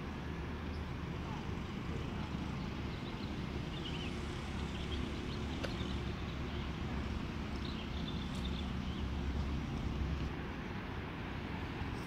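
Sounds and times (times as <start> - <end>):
small birds chirping: 0.6 - 10.3.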